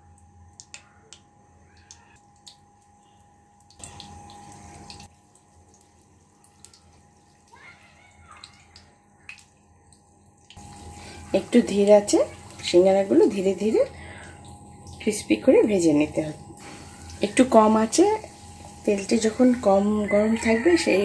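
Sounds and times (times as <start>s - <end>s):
samosas frying in oil: 0.0s - 21.0s.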